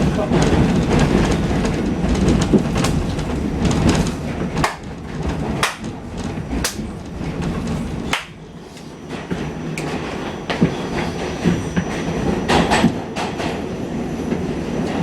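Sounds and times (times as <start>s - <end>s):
subway train rumbling on rails: 0.0s - 15.0s
wheels clacking over rail joints: 0.0s - 15.0s.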